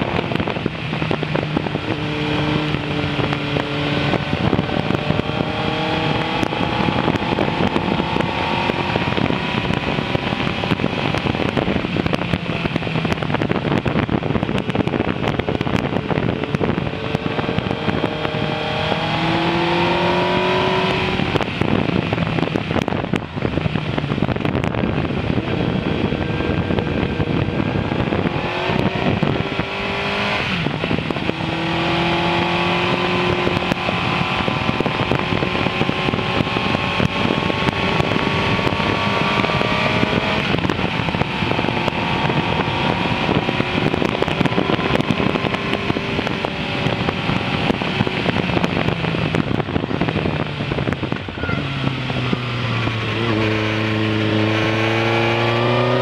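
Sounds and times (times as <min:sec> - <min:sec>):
motorcycle engine revving: 0:00.0 - 0:56.0
wind noise on microphone: 0:00.0 - 0:56.0.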